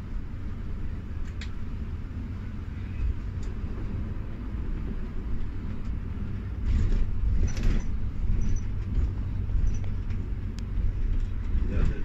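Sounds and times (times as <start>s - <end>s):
coach engine and road rumble: 0.0s - 12.0s.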